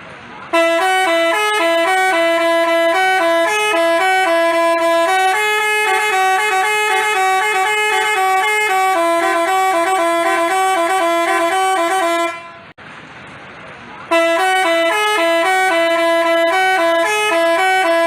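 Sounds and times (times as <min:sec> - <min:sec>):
multi-tone bus horn playing tune: 0:00.5 - 0:12.8, 0:14.1 - 0:18.0.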